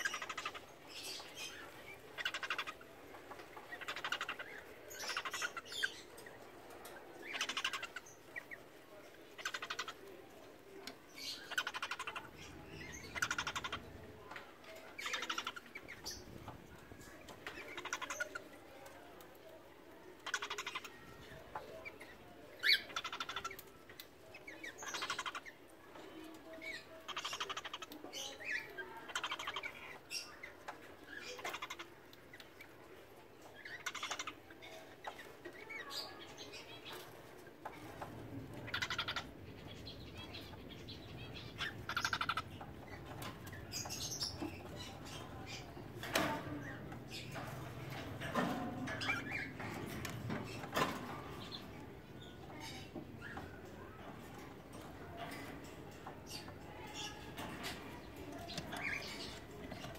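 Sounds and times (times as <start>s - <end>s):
cockatiels chirping: 0.0s - 6.2s, 6.8s - 8.6s, 9.4s - 10.0s, 11.2s - 14.0s, 15.0s - 18.4s, 20.2s - 23.7s, 24.6s - 25.6s, 26.5s - 32.6s, 33.6s - 54.0s, 56.2s - 59.9s.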